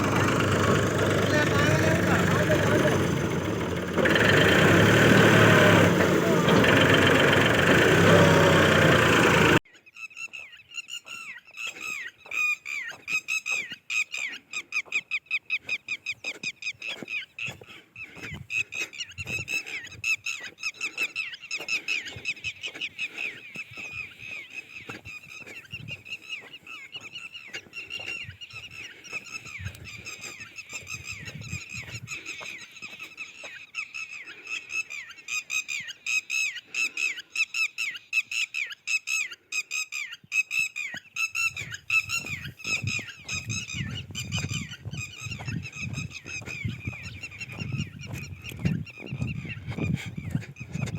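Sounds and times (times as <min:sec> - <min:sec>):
birds calling: 0:00.0 - 0:50.9.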